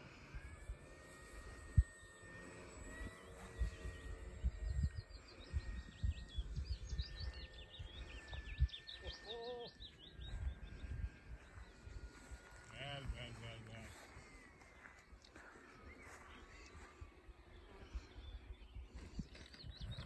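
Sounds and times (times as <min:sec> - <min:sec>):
distant plane engine whine: 0:00.0 - 0:20.0
small birds chirping: 0:00.1 - 0:20.0
wind buffeting microphone: 0:02.8 - 0:20.0.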